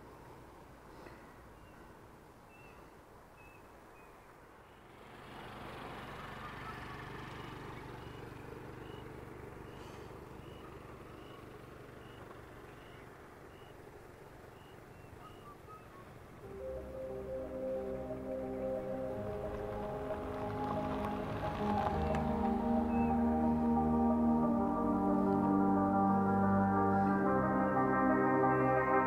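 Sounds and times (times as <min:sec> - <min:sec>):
vehicle passing on road: 0:03.8 - 0:29.0.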